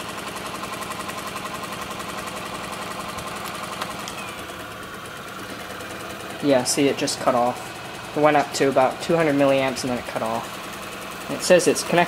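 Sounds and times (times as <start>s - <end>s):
stirling engine running: 0.0s - 12.0s.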